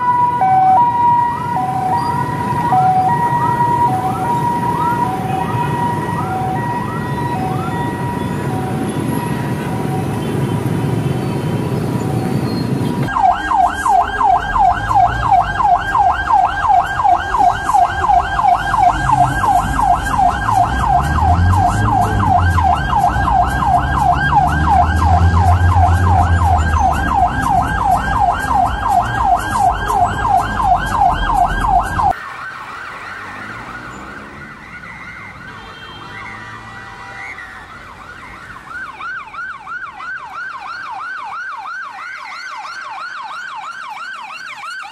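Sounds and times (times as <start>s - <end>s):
road noise: 0.0s - 44.9s
steady siren: 0.0s - 44.9s
yelp siren: 0.0s - 44.9s.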